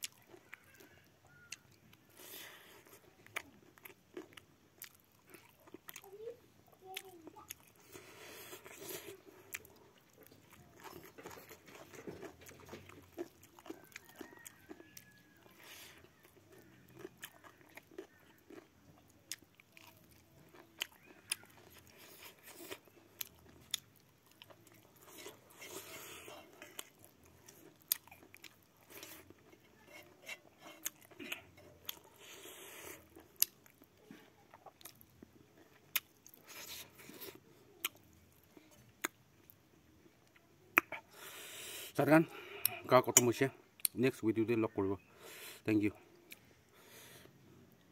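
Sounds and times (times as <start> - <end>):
crunching food: 0.0 - 41.2
person chewing: 0.0 - 44.0, 45.0 - 47.9.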